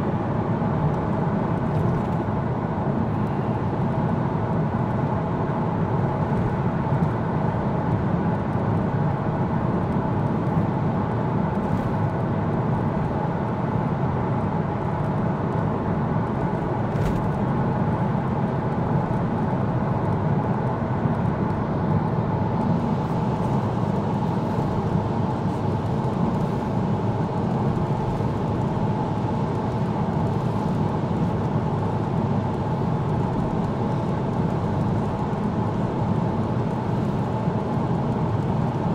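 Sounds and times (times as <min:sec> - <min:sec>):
car cabin road and engine noise: 0:00.0 - 0:38.9.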